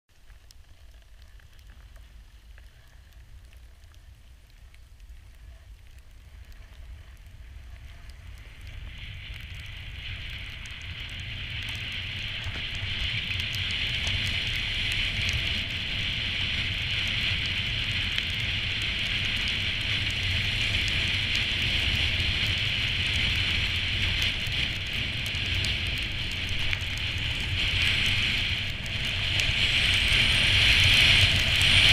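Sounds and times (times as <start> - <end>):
wind rumble on microphone: 0.2 - 31.9
skis scraping over snow: 6.2 - 31.9.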